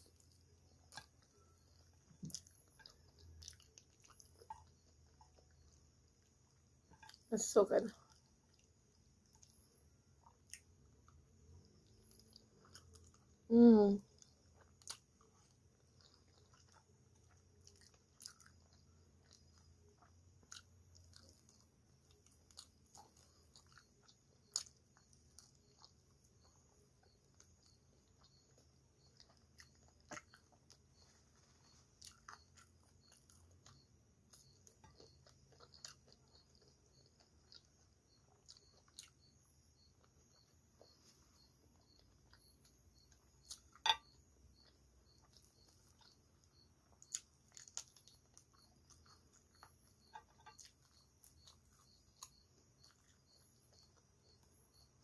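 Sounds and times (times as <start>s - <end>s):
chewing and mouth sounds: 0.0s - 55.0s.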